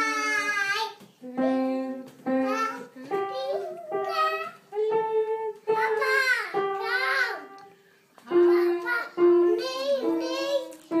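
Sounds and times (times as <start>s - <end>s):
girl singing: 0.0s - 7.7s, 8.3s - 11.0s.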